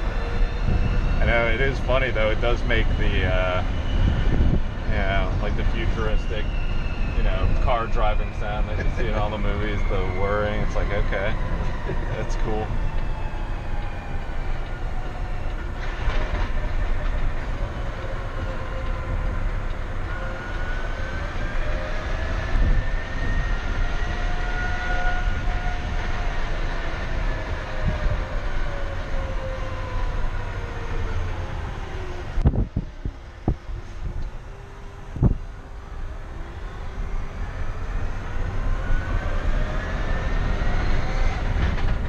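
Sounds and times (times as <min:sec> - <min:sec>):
road noise: 0:00.0 - 0:42.0.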